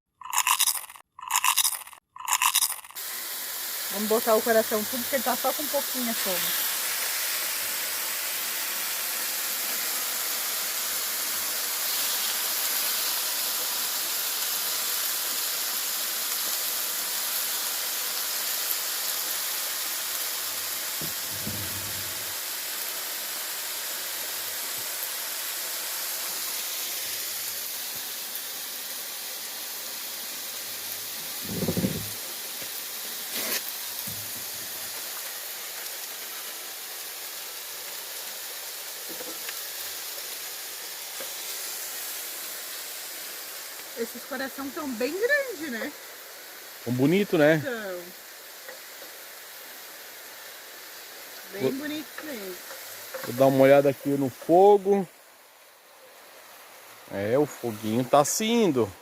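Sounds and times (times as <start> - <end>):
meat sizzling on a grill: 0.2 - 59.0.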